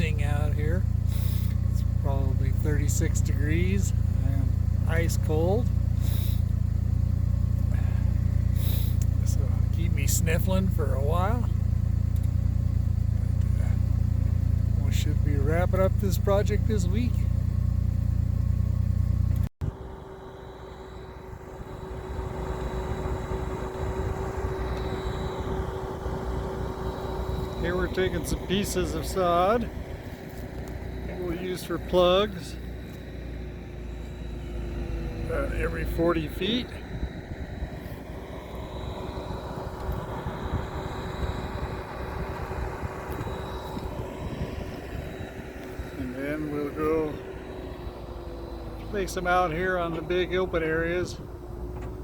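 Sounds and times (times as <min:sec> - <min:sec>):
construction machine engine rumbling: 0:00.0 - 0:52.0
engine rumble with whine: 0:00.0 - 0:52.0.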